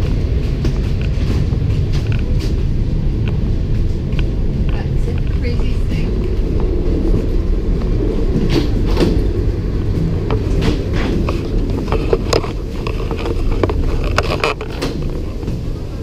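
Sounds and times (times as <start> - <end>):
footsteps clicking and knocking: 0.0 - 16.0
low rumble of boarding bridge: 0.0 - 16.0.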